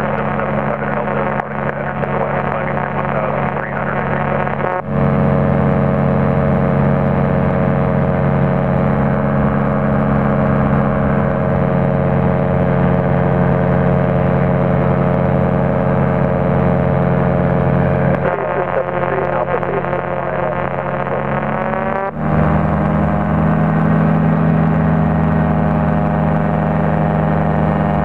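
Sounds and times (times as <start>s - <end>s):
light aircraft engine drone: 0.0s - 28.0s.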